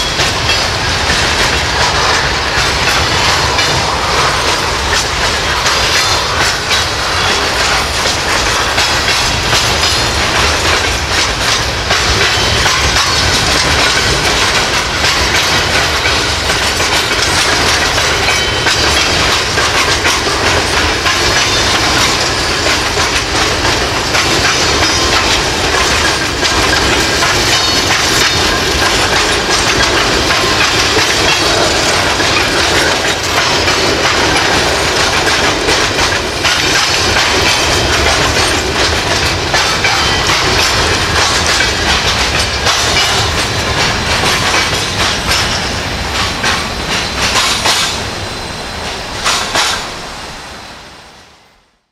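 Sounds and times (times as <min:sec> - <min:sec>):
train wheels clattering over rail joints: 0:00.0 - 0:50.1.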